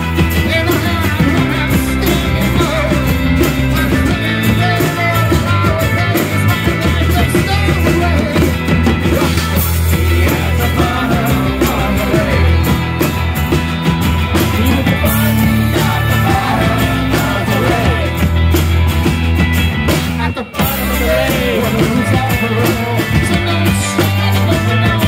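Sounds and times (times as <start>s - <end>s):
acoustic guitar: 0.0s - 25.0s
drums and cymbals: 0.0s - 25.0s
electric guitar: 0.0s - 25.0s
live rock band playing: 0.0s - 25.0s
person singing into a microphone: 0.3s - 12.8s, 14.5s - 18.2s, 20.2s - 25.0s.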